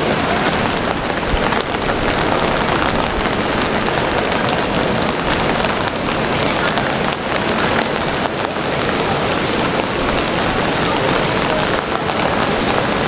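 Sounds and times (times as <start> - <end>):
rain splashing on hard surfaces: 0.0 - 13.0.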